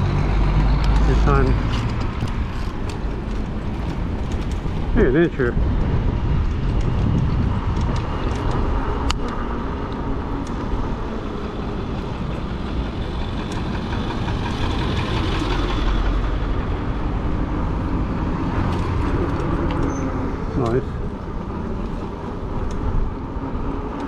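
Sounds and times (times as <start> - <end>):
road noise from bike: 0.0 - 24.0
traffic: 0.0 - 24.0
wind rumble: 0.0 - 24.0.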